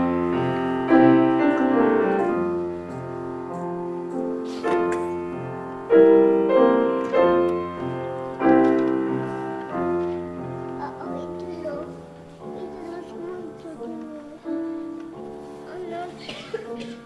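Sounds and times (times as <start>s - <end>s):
piano chords: 0.0s - 17.0s
soft piano playing: 0.0s - 17.0s.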